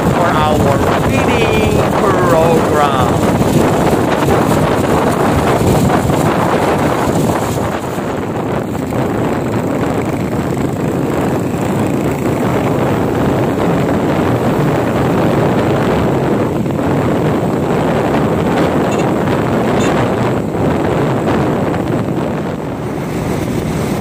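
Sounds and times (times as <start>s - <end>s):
motorcycle engine running: 0.0s - 24.0s
wind rushing over microphone: 0.0s - 24.0s.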